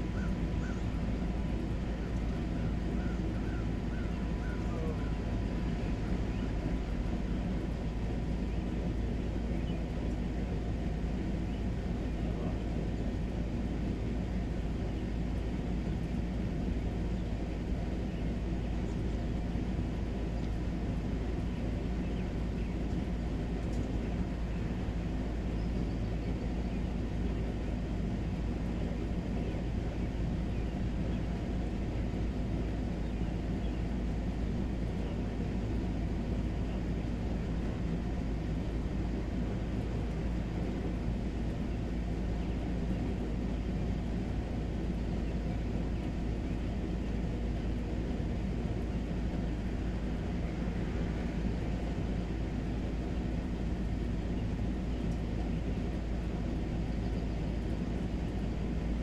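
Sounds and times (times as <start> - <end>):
deep outdoor rumble: 0.0 - 59.0.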